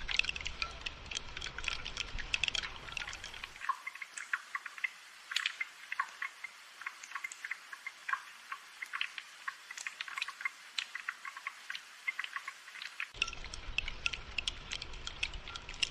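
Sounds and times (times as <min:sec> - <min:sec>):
water drops dripping: 0:00.0 - 0:15.9.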